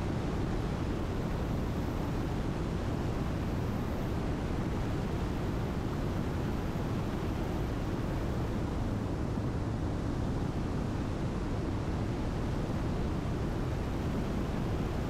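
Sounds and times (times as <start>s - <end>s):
aircraft engines and airflow rush: 0.0s - 15.0s.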